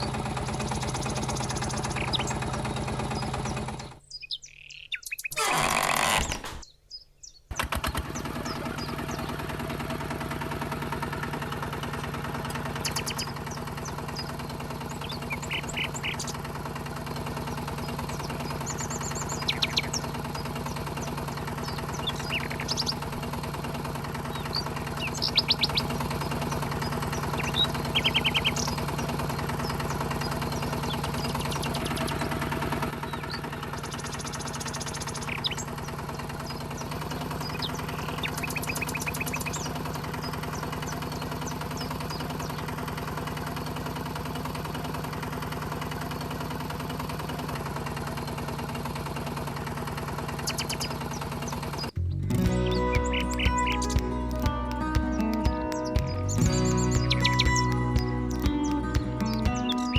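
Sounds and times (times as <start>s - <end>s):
small motor running: 0.0s - 4.0s, 5.3s - 6.5s, 7.5s - 59.9s.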